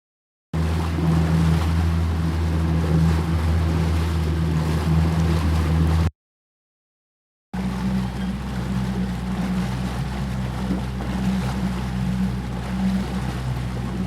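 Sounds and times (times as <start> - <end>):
outboard engine running: 0.6 - 6.1, 7.6 - 14.0
water splashing: 0.6 - 6.1, 7.6 - 14.0.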